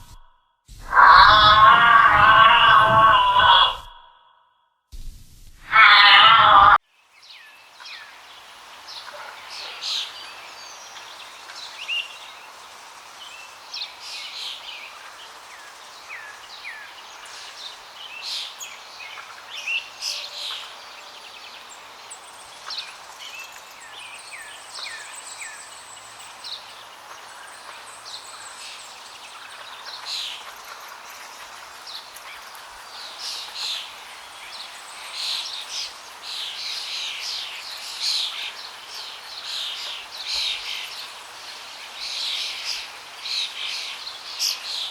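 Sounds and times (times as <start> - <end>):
small birds chirping: 5.7 - 44.9
faint steady hiss: 6.9 - 44.9.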